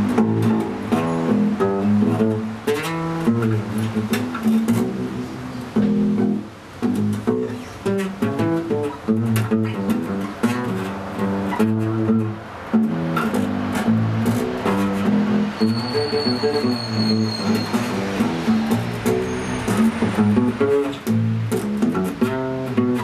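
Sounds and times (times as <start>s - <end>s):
acoustic bass guitar plucked: 0.0s - 23.0s.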